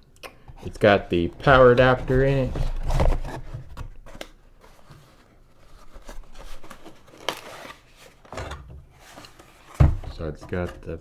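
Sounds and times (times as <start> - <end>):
cardboard rustling and scraping: 0.7 - 10.9.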